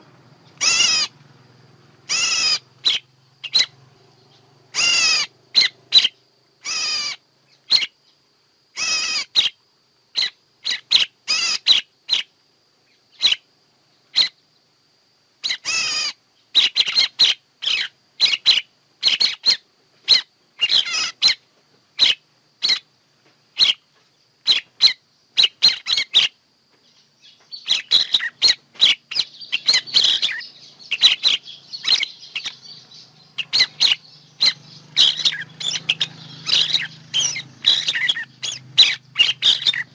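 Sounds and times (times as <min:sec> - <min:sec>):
birds chirping and whistling: 0:00.0 - 0:01.2, 0:02.0 - 0:08.2, 0:08.8 - 0:09.6, 0:10.2 - 0:12.3, 0:12.9 - 0:13.4, 0:14.0 - 0:14.4, 0:15.4 - 0:21.4, 0:22.0 - 0:22.9, 0:23.6 - 0:23.8, 0:24.4 - 0:39.9.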